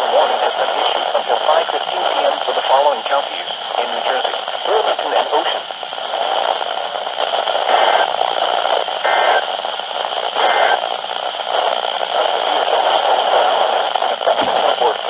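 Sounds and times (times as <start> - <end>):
radio hiss and static: 0.0 - 15.0.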